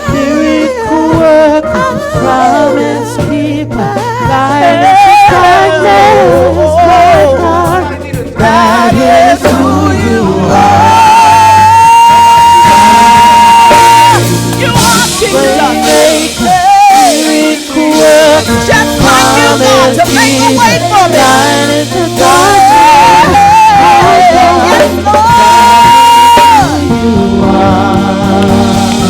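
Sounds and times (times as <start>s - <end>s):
gospel band playing: 0.0s - 29.0s
person singing: 0.0s - 29.0s.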